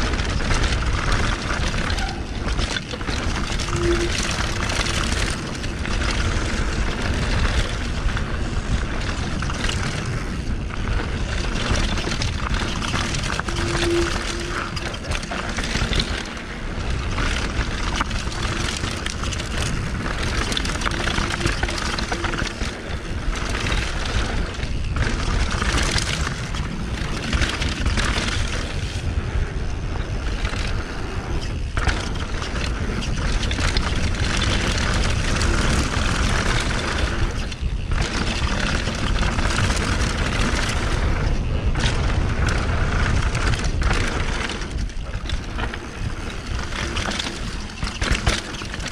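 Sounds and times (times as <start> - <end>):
bike rattling: 0.0 - 48.9
bike tyres rumbling on dirt: 0.0 - 48.9
wind buffeting microphone: 0.0 - 48.9.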